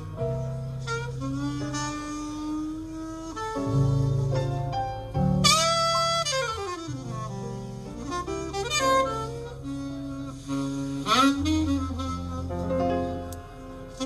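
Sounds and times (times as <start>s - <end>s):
alto saxophone melody: 0.0s - 14.0s
double bass line: 0.0s - 14.0s.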